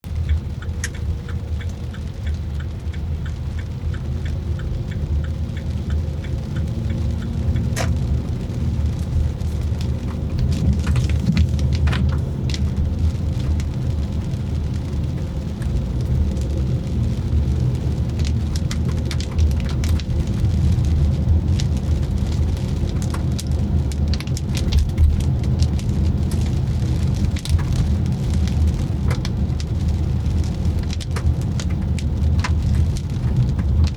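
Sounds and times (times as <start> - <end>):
car rumbling on road: 0.0 - 33.9
rain drops clicking on car: 0.0 - 33.9.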